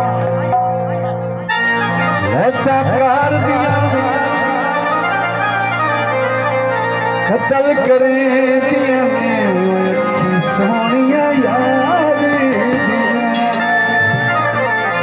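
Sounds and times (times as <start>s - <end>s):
reedy accordion-like folk melody: 0.0s - 15.0s.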